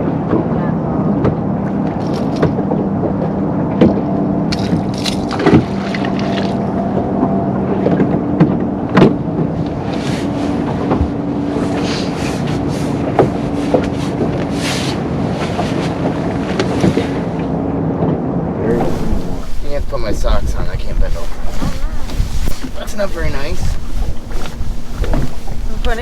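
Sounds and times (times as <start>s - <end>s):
outboard motor running: 0.0s - 17.8s, 18.5s - 26.0s
wind on microphone: 0.0s - 26.0s.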